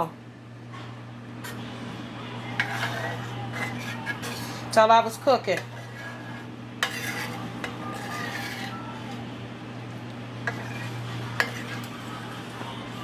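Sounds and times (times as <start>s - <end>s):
spoon stirring and scraping a pan: 1.4s - 1.8s, 2.4s - 12.6s.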